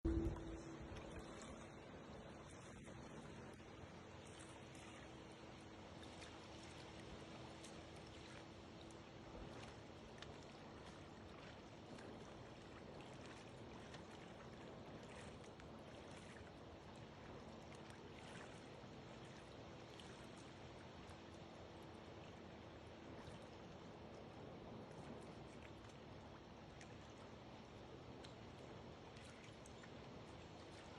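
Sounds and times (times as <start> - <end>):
steady low hum: 0.0 - 30.9
water lapping and splashing: 0.0 - 30.9.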